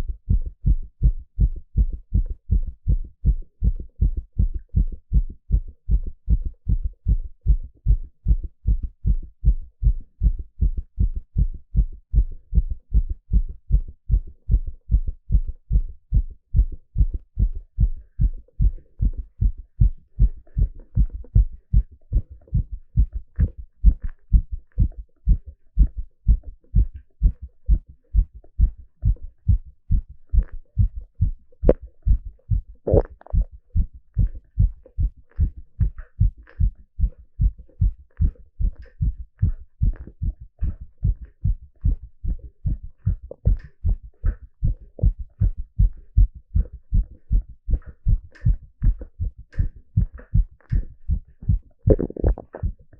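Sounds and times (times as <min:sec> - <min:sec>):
heartbeat through stethoscope: 0:00.0 - 0:52.9.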